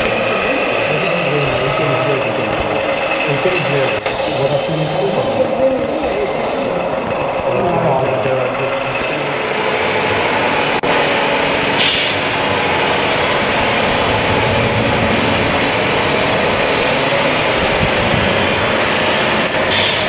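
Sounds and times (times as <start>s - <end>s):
model trucks rumbling: 0.0s - 20.0s.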